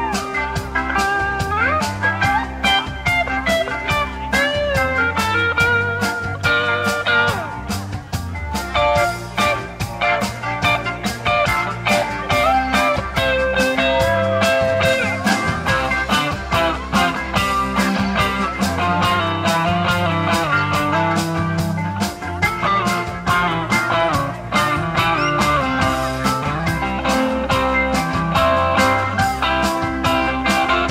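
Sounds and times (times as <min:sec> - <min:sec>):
bass guitar: 0:00.0 - 0:30.9
electric guitar: 0:00.0 - 0:30.9
steady drum beat: 0:00.0 - 0:30.9.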